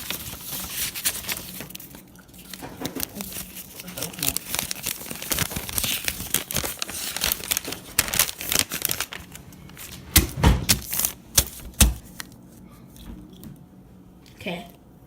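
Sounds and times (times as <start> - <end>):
paper and packaging rustling: 0.0 - 12.6.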